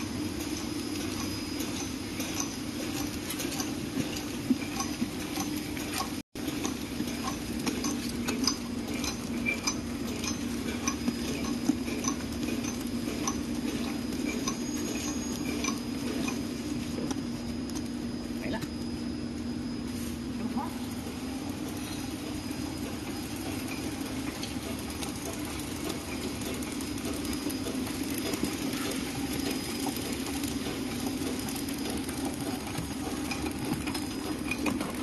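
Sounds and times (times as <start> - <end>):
packing machine hum: 0.0 - 35.0.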